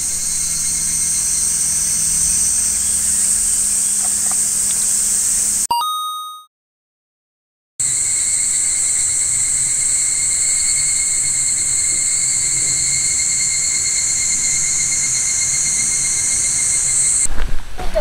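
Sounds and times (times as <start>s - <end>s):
insects chirring: 0.0s - 5.7s, 7.8s - 17.3s.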